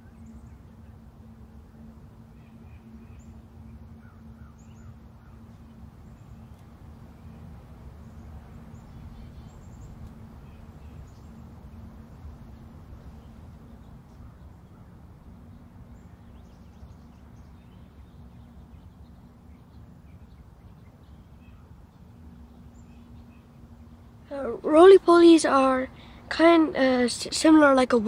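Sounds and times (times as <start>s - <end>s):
faint bird chirps: 0.0s - 24.2s
faint hum: 0.0s - 28.0s
low steady rumble: 0.0s - 28.0s.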